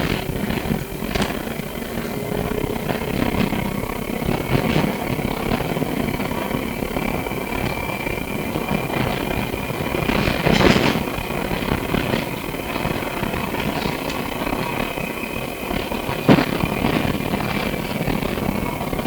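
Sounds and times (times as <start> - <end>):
tram running noise: 0.0 - 19.0.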